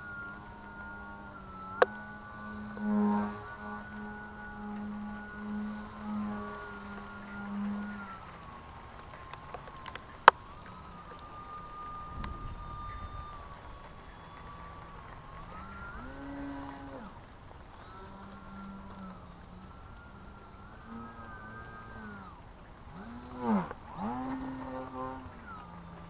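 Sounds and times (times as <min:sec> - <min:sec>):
electric motor and propeller droning: 0:00.0 - 0:26.0.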